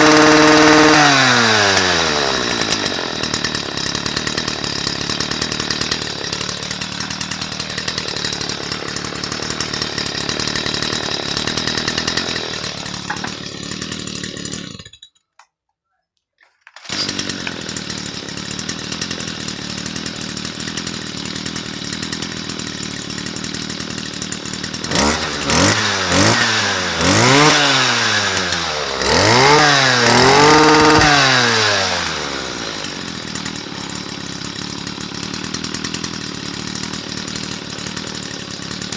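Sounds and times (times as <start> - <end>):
brush cutter engine idling and revving: 0.0 - 15.0, 16.8 - 38.9.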